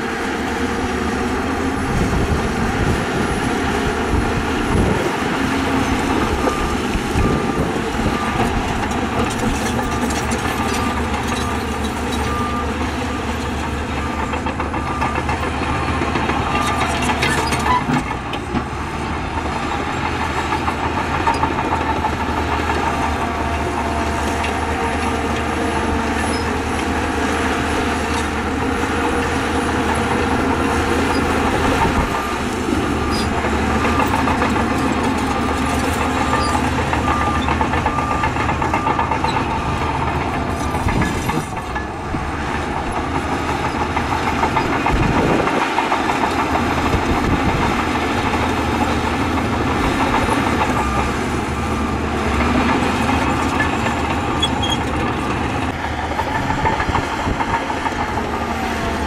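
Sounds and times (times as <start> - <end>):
bulldozer engine under load: 0.0 - 59.0
steel tracks clanking: 0.0 - 59.0.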